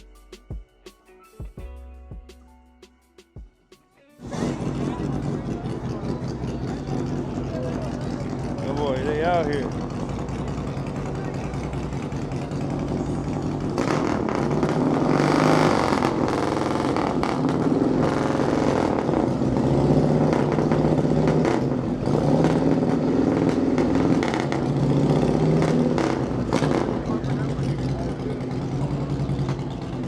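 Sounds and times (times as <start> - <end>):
car engine revving: 4.2 - 30.0.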